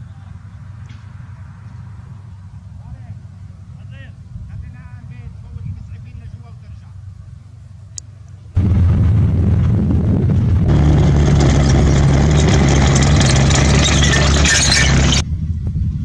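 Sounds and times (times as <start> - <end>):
tracked vehicle engine droning: 0.0 - 15.6.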